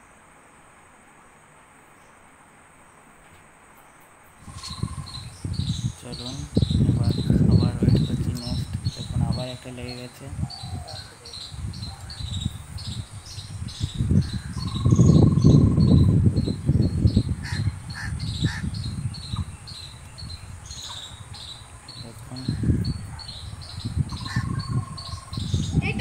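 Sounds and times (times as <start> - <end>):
insects chirping: 0.0 - 26.0
low rumbling microphone noise: 4.4 - 26.0.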